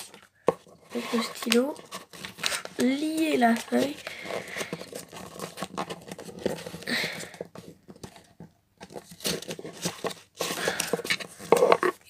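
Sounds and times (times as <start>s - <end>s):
paper crumpling: 0.0s - 12.0s.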